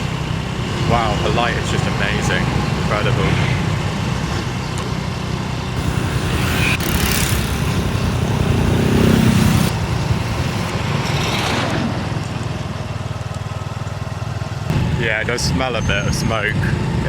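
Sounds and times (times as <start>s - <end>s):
vehicle engine running: 0.0s - 17.0s
wind and road noise: 0.0s - 17.0s.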